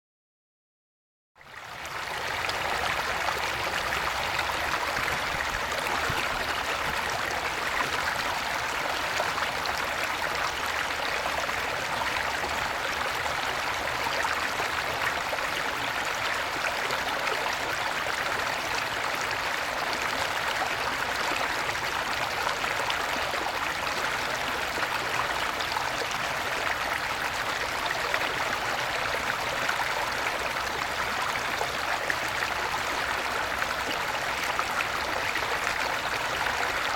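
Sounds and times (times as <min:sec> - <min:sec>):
stream water babbling: 0:01.4 - 0:36.9.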